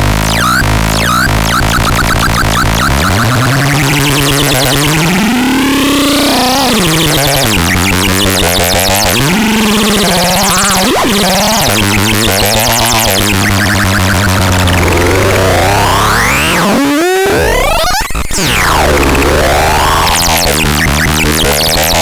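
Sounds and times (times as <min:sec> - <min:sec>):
buzzy synthesizer tones: 0:00.0 - 0:22.0
rapid pulsing buzz: 0:00.0 - 0:22.0.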